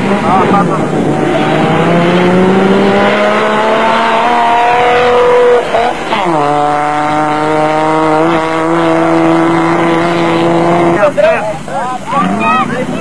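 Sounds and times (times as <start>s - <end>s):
pickup truck engine accelerating: 0.0s - 11.2s.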